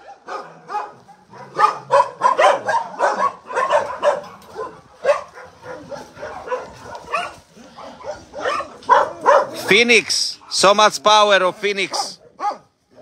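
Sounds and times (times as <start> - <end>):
dogs barking: 0.0 - 9.8, 11.7 - 13.0.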